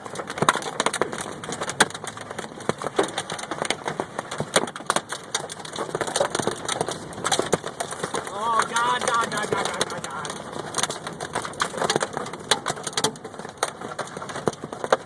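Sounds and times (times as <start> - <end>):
hail clattering on a car: 0.0 - 15.0
loud hail cracks: 0.0 - 15.0.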